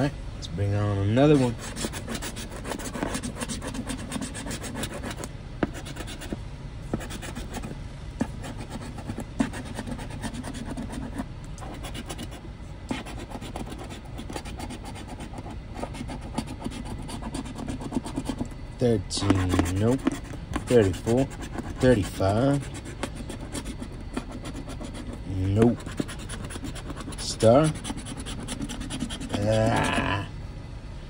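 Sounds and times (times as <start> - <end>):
coin scratching lottery ticket: 1.3 - 18.5, 19.1 - 30.2.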